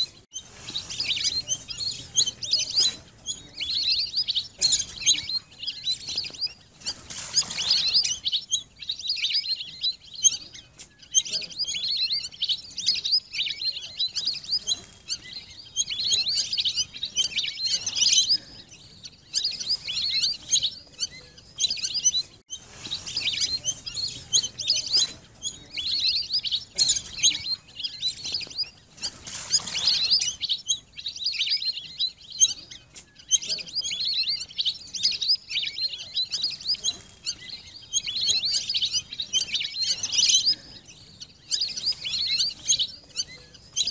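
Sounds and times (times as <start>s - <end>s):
whistling ducks calling: 0.0s - 43.9s.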